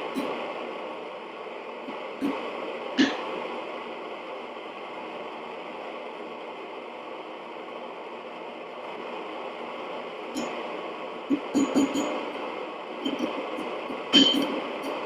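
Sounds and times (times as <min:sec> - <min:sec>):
propane burner hissing: 0:00.0 - 0:15.0.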